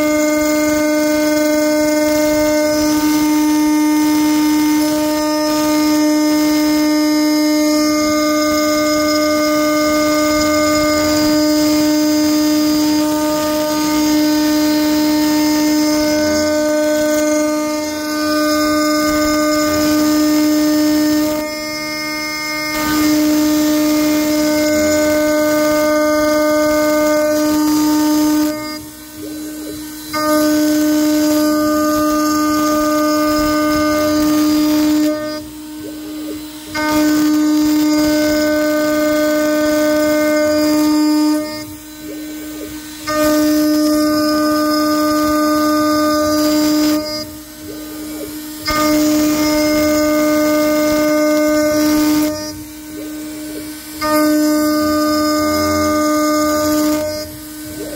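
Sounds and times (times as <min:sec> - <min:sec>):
high-pitched machining whine: 0:00.0 - 0:57.9.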